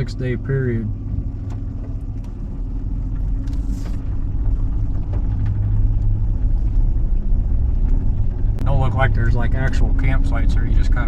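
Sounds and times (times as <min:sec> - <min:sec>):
van engine rumbling: 0:00.0 - 0:11.0.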